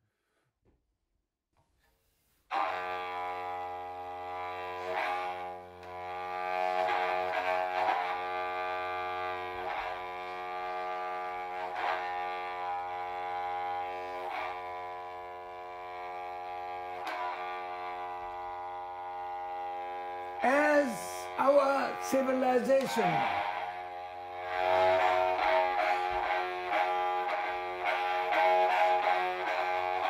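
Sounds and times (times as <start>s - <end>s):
bowed one-string fiddle drone: 2.6s - 20.4s, 23.2s - 30.0s.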